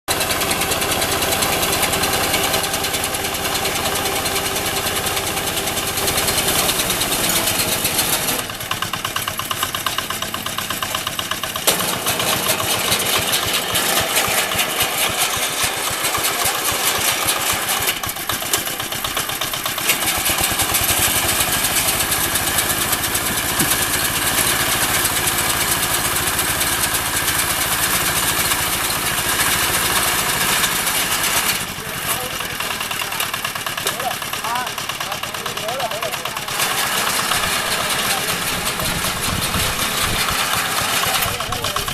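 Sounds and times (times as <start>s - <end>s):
harvester engine and machinery: 0.1s - 41.9s.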